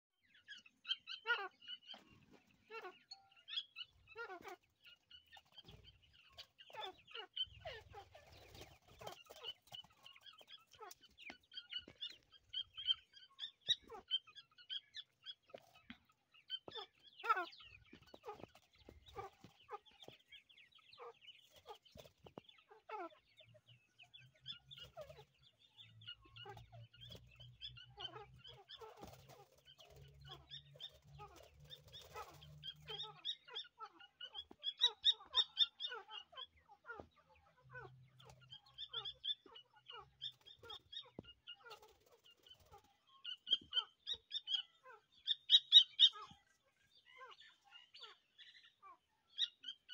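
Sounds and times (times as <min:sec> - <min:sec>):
partridge chicks cheeping: 0:00.2 - 0:49.9.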